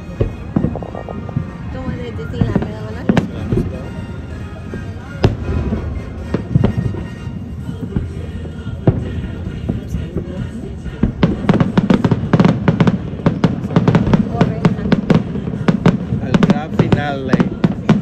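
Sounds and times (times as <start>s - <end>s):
fireworks bangs and cracks: 0.0s - 4.0s, 4.6s - 18.0s.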